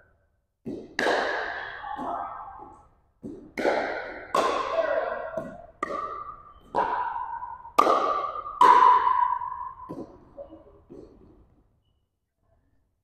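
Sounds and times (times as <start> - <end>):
paddles hitting plastic ball: 0.6 - 11.4.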